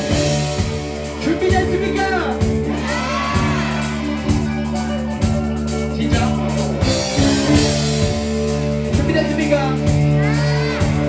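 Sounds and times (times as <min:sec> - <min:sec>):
drum kit strikes: 0:00.0 - 0:11.0
electric bass: 0:00.0 - 0:11.0
electric guitar: 0:00.0 - 0:11.0.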